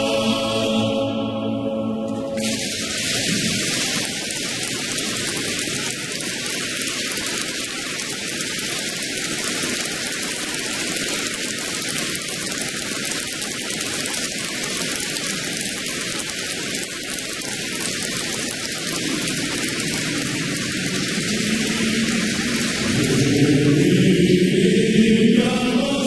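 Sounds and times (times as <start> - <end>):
men clapping: 2.4 - 23.6.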